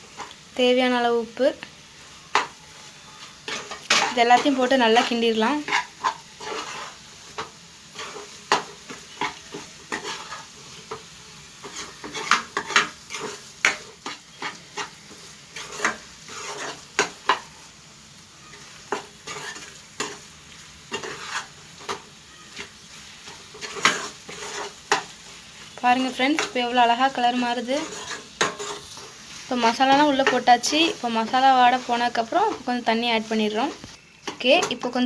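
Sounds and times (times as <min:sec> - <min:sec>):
spoon scraping a pan: 0:00.0 - 0:00.5, 0:01.9 - 0:35.0
faint frying sizzle: 0:00.0 - 0:35.0.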